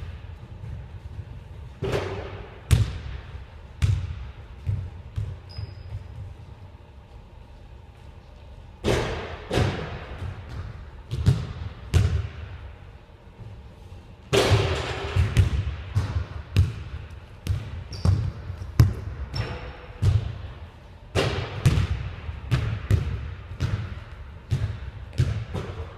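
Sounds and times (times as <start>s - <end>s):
basketballs bouncing on gym floor: 0.0s - 6.6s, 8.8s - 12.6s, 14.3s - 25.9s.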